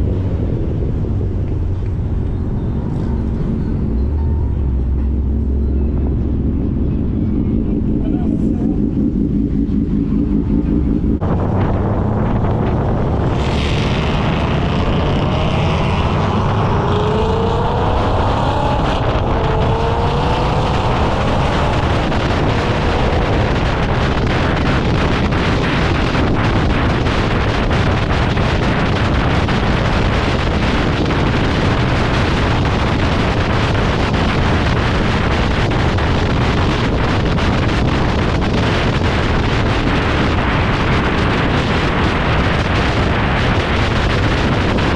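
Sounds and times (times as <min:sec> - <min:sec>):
car engine note rising and falling: 0:00.0 - 0:44.9
wind buffeting microphone: 0:00.0 - 0:44.9.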